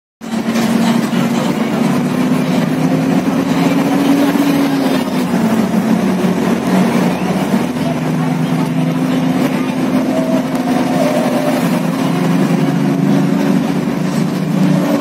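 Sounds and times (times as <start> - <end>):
tyre and road noise: 0.2 - 15.0
vehicle engine running: 0.2 - 15.0.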